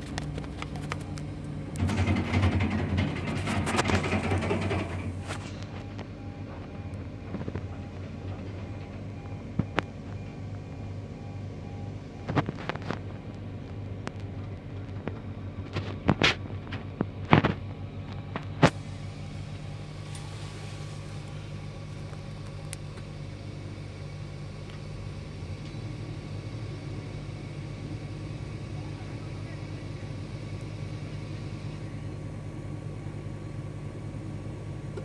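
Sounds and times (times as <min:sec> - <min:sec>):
heavy machine engine running: 0:00.0 - 0:35.0.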